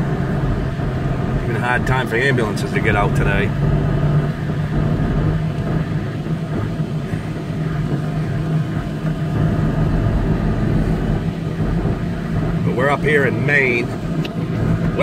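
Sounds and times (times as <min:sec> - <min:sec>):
car engine hum: 0:00.0 - 0:15.0
tyres rumbling on road: 0:00.0 - 0:15.0.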